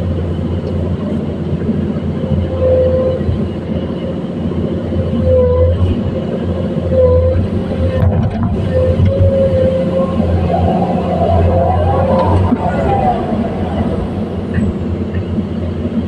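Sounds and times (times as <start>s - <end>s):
engine whine: 0.0s - 16.0s
excavator diesel engine running: 0.0s - 16.0s.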